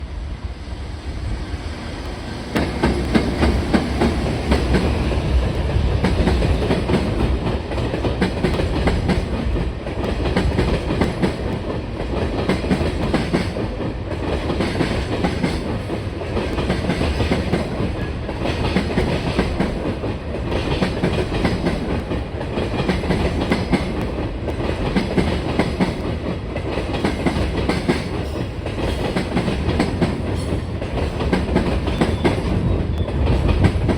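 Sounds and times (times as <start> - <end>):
freight train wheels clattering: 2.3 - 33.9.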